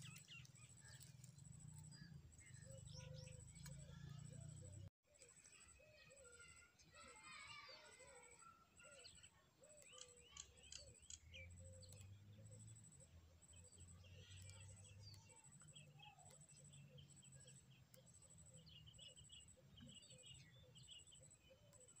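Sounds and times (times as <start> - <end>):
high bird chirps: 0.0 - 22.0.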